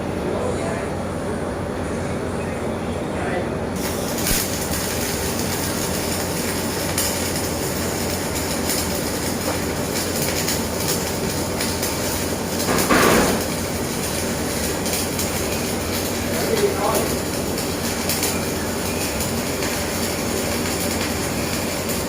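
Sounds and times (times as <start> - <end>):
arc welding crackling hiss: 3.8 - 22.0.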